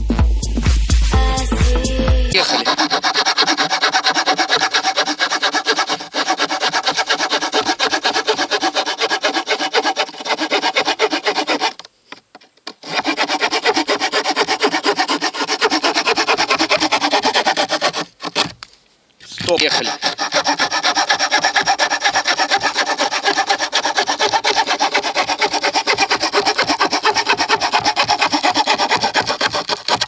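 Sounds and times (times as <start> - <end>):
hand saw cutting wood: 2.3 - 18.7, 19.3 - 30.0.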